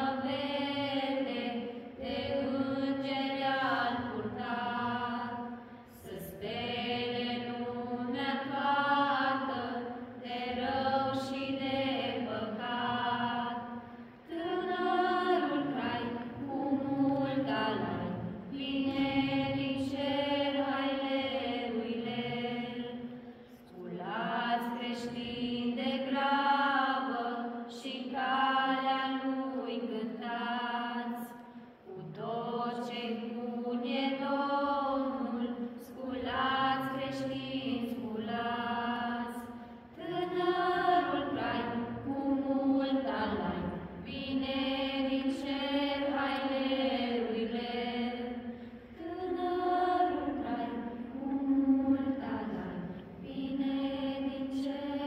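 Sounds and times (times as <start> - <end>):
group singing a carol unaccompanied: 0.0 - 55.0.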